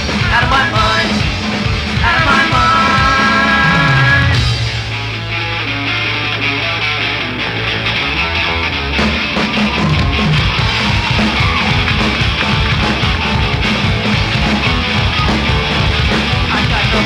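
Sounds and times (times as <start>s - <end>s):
bass and drums beat: 0.0s - 17.0s
rock band playing: 0.0s - 17.0s.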